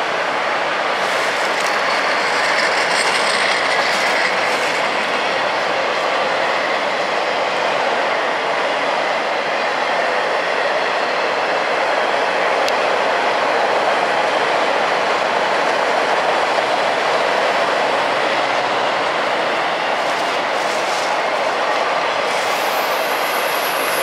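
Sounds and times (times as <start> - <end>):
freight train wheels on track: 0.0 - 24.0.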